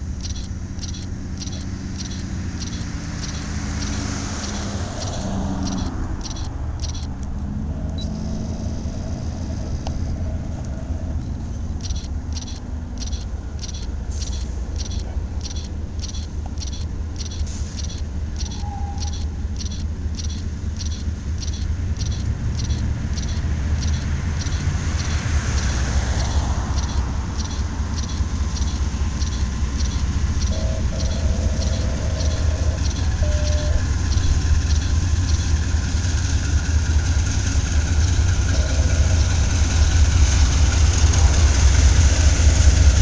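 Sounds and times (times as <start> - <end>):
train wheels clicking: 0.0 - 7.4, 11.2 - 43.0
freight train rumbling past: 0.0 - 43.0.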